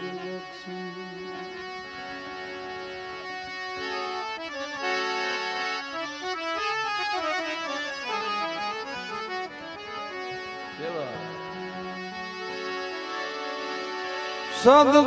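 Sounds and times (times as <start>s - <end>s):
harmonium melody: 0.0s - 15.0s.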